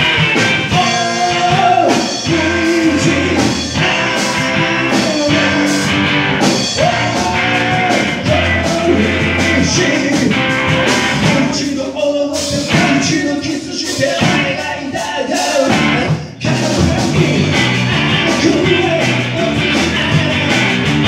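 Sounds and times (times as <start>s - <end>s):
electric bass: 0.0s - 14.8s, 15.5s - 21.0s
drum kit: 0.0s - 21.0s
electric guitars: 0.0s - 21.0s
man singing: 0.6s - 21.0s.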